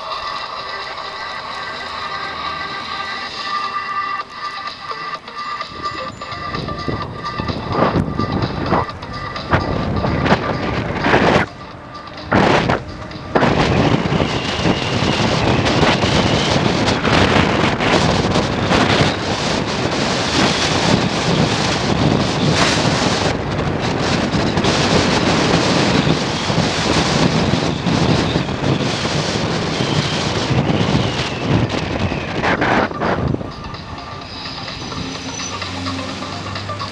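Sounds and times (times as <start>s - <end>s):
wind rush on microphone: 5.6s - 36.9s.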